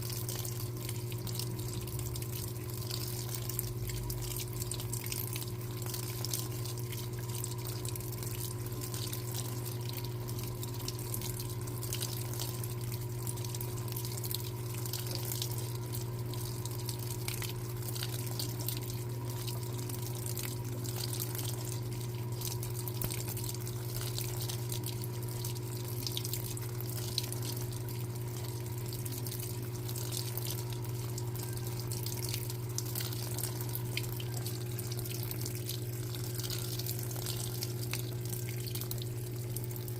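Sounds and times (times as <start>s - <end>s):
low electrical hum: 0.0s - 39.9s
water splashing in washing machine: 0.0s - 39.9s.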